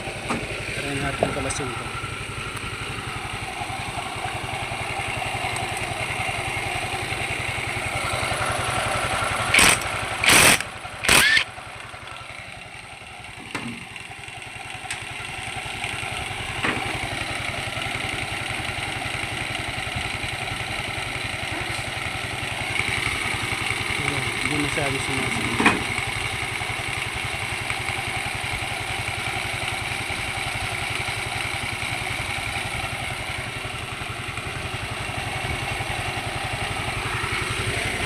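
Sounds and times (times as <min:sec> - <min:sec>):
scooter engine idling: 0:00.0 - 0:38.0.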